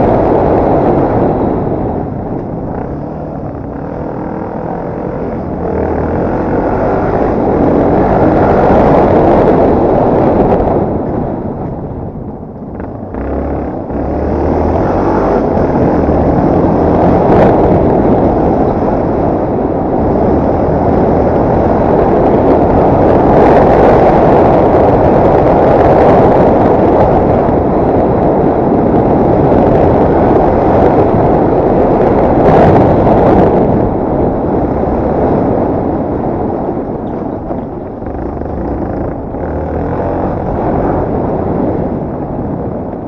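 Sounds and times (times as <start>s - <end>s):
dirt bike engine running: 0.0s - 42.6s
wind rumble on microphone: 0.0s - 43.0s.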